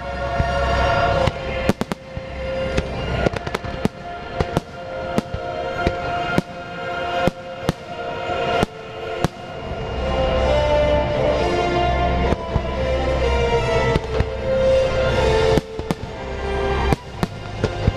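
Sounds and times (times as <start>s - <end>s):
music playing: 0.0s - 17.9s.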